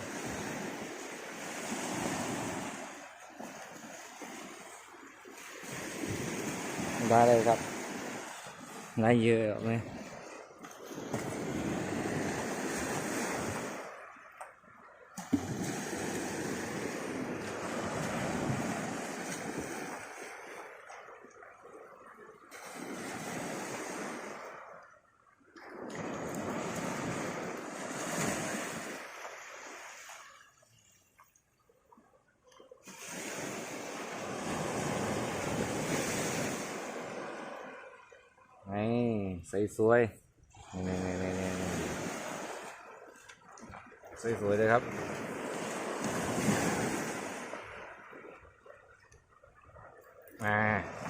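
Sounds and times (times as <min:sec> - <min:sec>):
sea surf washing on shore: 0:00.0 - 0:25.0, 0:25.6 - 0:31.0, 0:32.8 - 0:51.0.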